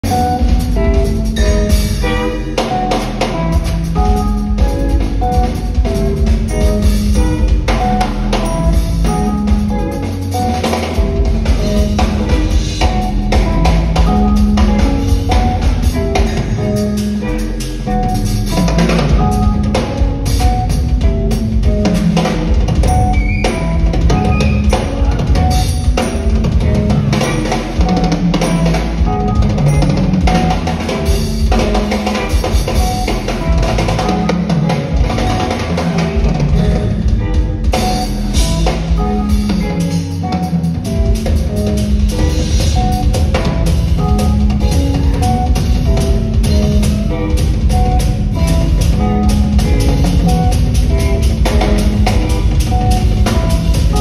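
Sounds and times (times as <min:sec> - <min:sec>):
drum kit: 0:00.0 - 0:54.0
electric guitars: 0:00.0 - 0:54.0
keyboards: 0:00.0 - 0:54.0.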